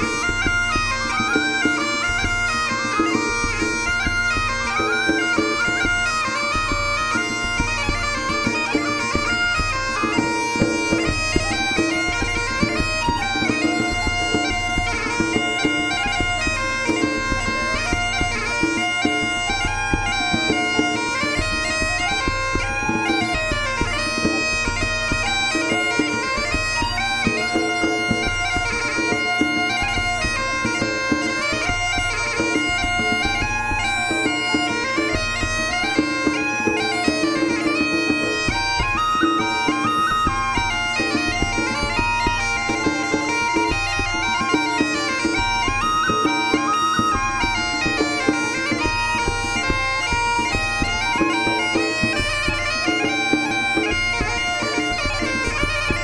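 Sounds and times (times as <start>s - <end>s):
bagpipe drone: 0.0s - 56.0s
bagpipes playing a tune: 0.0s - 56.0s.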